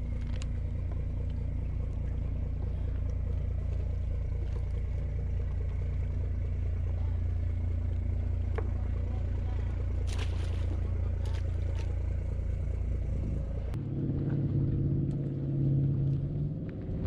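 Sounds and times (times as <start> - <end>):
faint constant hum: 0.0 - 16.5
engine idling drone: 0.0 - 17.0.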